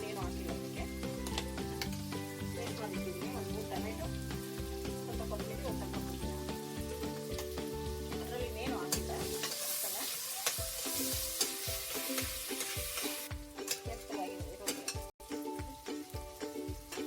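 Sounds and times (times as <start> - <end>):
background music: 0.0 - 17.0
food sizzling in hot oil: 0.0 - 17.0.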